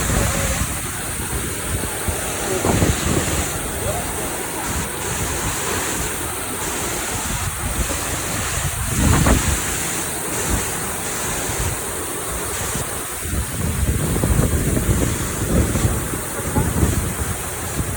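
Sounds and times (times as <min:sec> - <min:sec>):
waterfall rushing: 0:00.0 - 0:17.9
wind buffeting microphone: 0:00.0 - 0:17.9.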